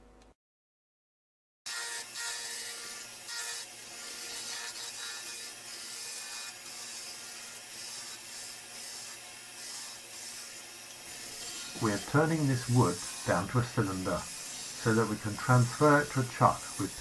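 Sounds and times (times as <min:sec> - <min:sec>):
lathe gouge cutting wood: 0:01.7 - 0:17.0.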